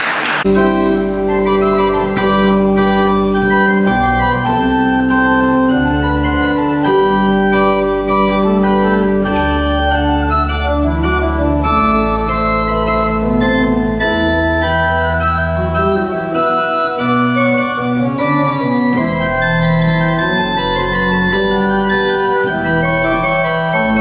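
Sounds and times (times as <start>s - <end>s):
pipe organ chords: 0.4s - 24.0s.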